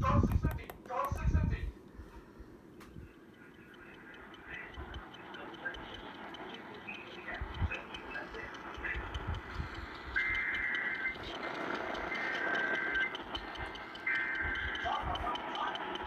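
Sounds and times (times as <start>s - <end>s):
radio static and hiss: 2.6s - 16.0s.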